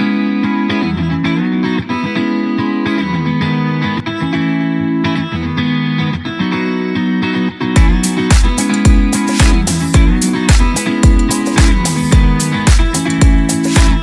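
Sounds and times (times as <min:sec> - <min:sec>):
guitar playing sustained notes: 0:00.0 - 0:14.0.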